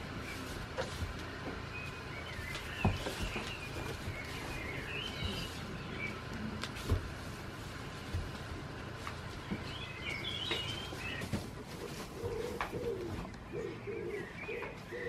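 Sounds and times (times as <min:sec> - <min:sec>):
goats thumping in straw: 0:00.0 - 0:13.3
small birds chirping: 0:00.0 - 0:15.0.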